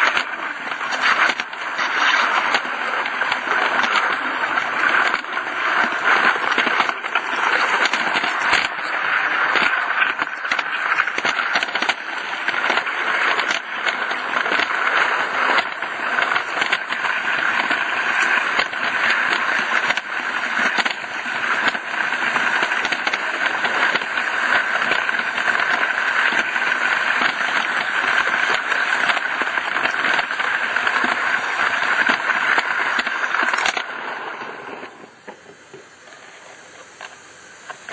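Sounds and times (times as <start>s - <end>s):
model steam locomotive running: 0.0s - 37.9s.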